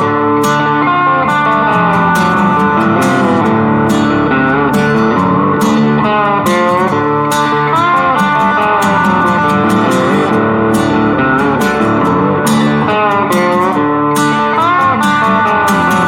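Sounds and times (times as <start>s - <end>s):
electric guitar music with beat: 0.0s - 16.0s.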